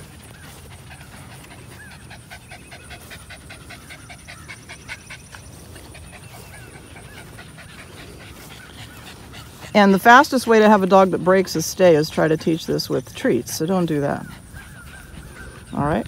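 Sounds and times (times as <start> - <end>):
dog panting rapidly: 0.0 - 16.0.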